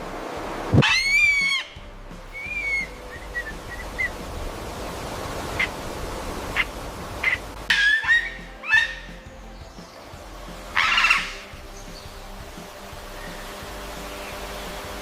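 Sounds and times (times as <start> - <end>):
background music: 0.0 - 15.0
bird calling: 0.8 - 14.8.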